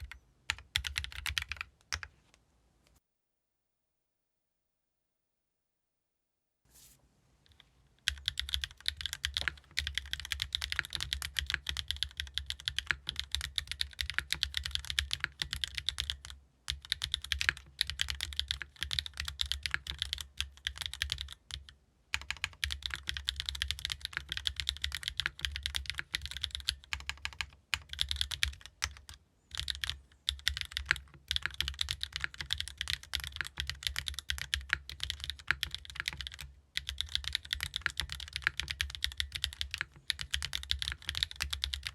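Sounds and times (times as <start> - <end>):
fast typing on mechanical keyboard: 0.0 - 2.1, 8.0 - 41.9.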